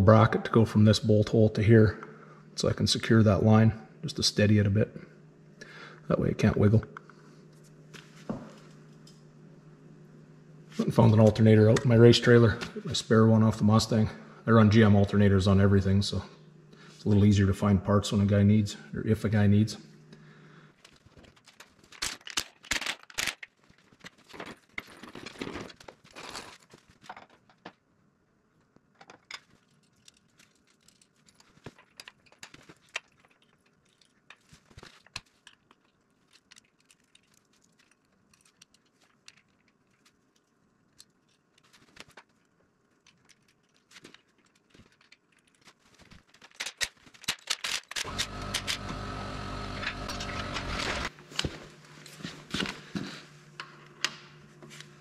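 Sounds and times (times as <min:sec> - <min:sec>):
steady humming noise: 0:00.0 - 0:36.7, 0:37.9 - 0:55.0.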